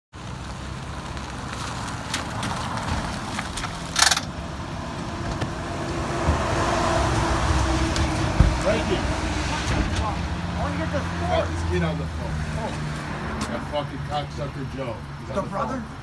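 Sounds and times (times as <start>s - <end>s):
car rolling on wet pavement: 0.1s - 15.8s
car engine idling: 0.1s - 16.0s.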